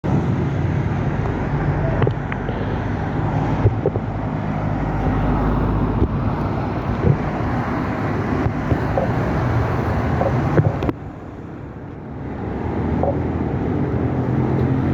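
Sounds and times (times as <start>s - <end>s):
low rumble of traffic: 0.0s - 14.9s
wind on microphone: 0.0s - 14.9s.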